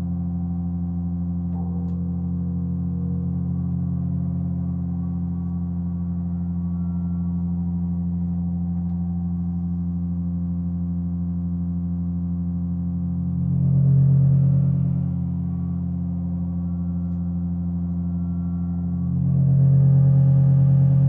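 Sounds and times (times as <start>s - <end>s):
electronic drone: 0.0s - 21.0s
loud low tone: 0.0s - 21.0s.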